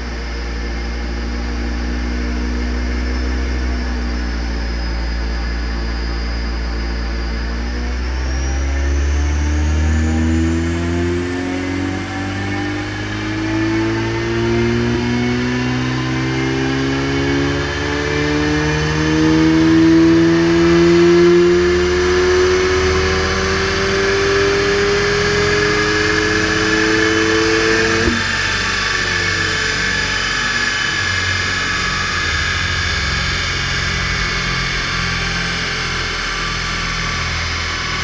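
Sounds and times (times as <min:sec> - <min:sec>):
dyno rollers whirring: 0:00.0 - 0:38.0
car engine revving under load: 0:06.7 - 0:38.0.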